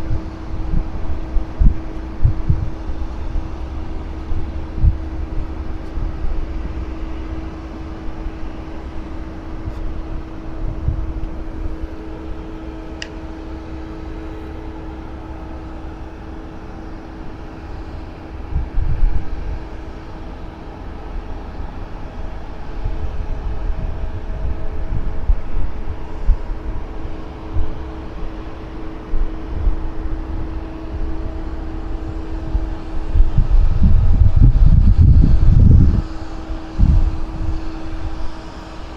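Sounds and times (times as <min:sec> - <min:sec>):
low rumble: 0:00.0 - 0:38.9
machine hum: 0:00.0 - 0:38.9.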